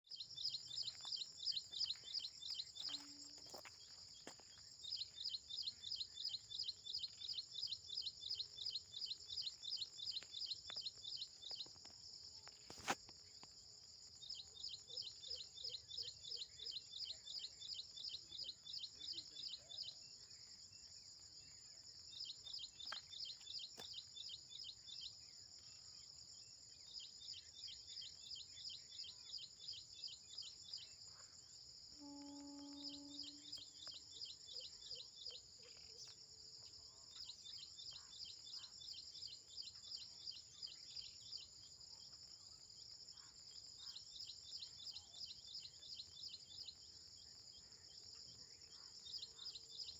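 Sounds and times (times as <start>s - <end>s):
insect drone: 0.1s - 49.9s.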